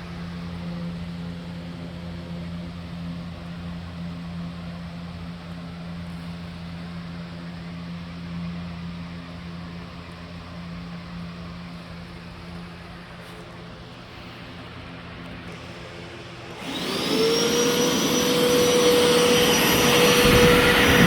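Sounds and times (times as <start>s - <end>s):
carpet cleaner motor drone: 0.0s - 21.0s.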